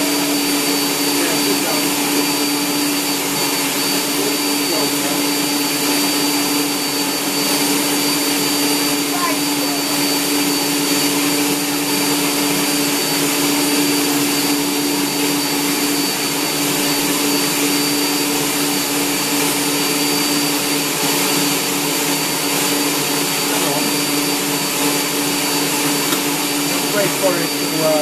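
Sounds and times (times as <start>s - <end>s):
stand mixer motor hum: 0.0s - 28.0s.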